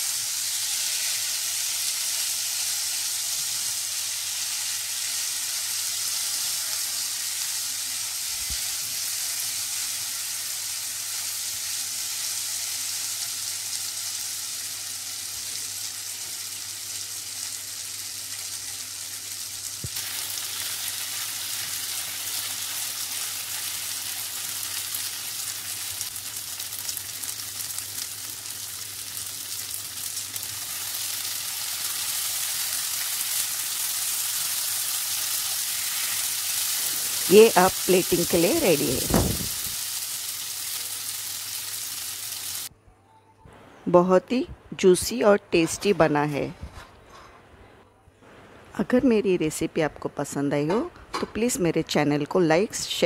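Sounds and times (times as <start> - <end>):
prawns sizzling in oil: 0.0 - 42.7.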